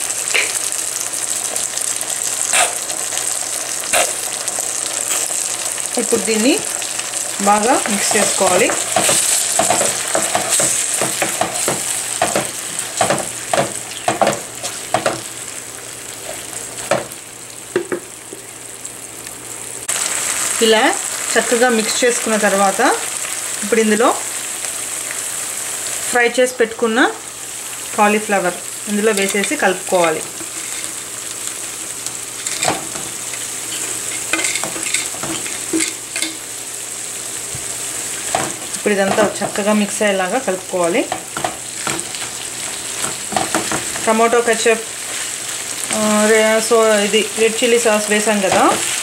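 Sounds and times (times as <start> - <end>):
vegetables sizzling in pan: 0.0 - 49.0.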